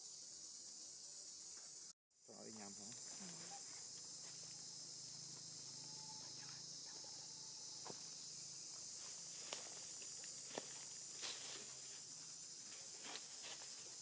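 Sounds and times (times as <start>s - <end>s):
insect chorus: 0.0s - 14.0s.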